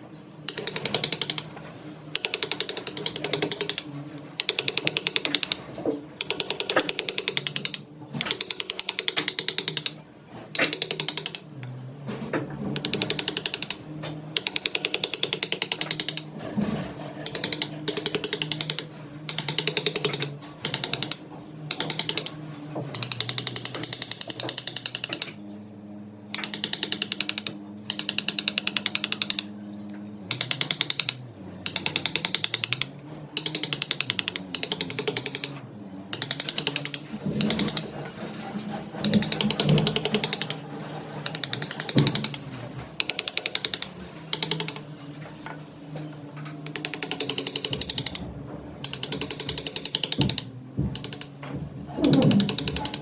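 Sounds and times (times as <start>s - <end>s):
turning tool rattling clicks: 0.5s - 5.6s, 6.2s - 11.6s, 12.8s - 13.8s, 14.4s - 16.3s, 17.2s - 25.4s, 26.3s - 29.5s, 30.3s - 53.0s.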